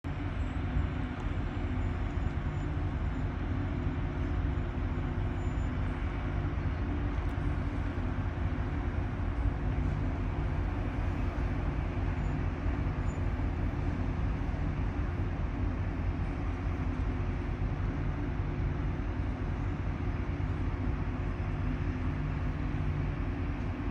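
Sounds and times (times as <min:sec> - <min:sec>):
machinery low hum: 0:00.0 - 0:23.9.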